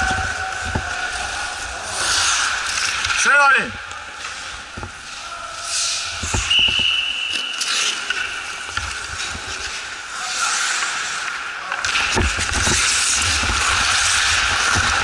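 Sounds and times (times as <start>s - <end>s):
skates scraping ice: 0.0s - 15.0s.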